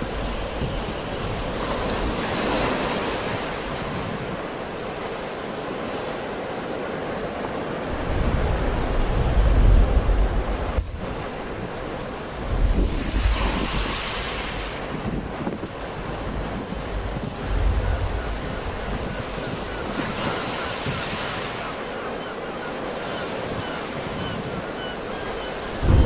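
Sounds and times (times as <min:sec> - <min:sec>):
wind buffeting microphone: 0:00.0 - 0:06.0, 0:07.5 - 0:22.2, 0:22.8 - 0:26.0
sea waves washing onto shore: 0:00.0 - 0:26.0.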